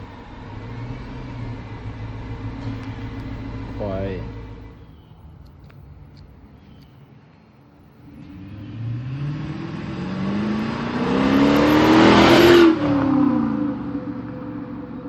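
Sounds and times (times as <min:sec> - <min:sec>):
car engine accelerating: 0:00.0 - 0:06.8, 0:07.8 - 0:15.0.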